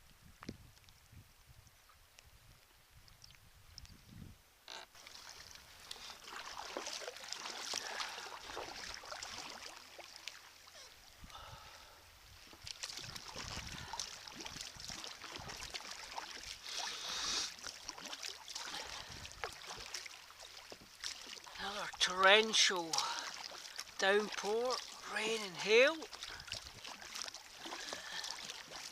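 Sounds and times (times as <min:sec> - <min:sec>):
paddle splashing in water: 0:04.7 - 0:11.4, 0:12.3 - 0:28.9
surging water: 0:04.7 - 0:28.9.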